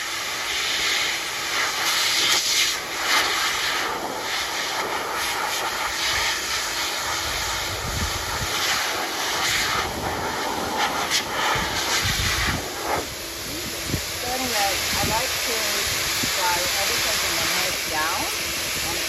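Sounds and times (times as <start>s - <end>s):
dog dryer blowing air: 0.0s - 19.0s.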